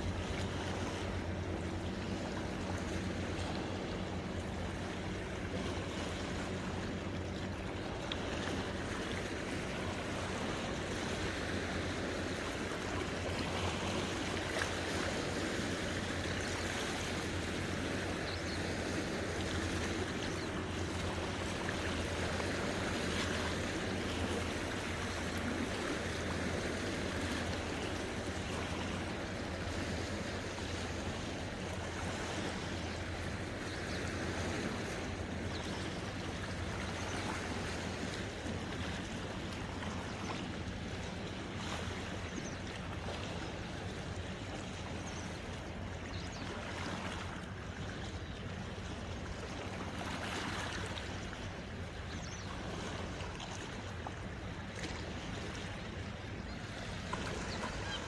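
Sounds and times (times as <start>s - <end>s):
waves lapping over rocks: 0.0s - 58.0s.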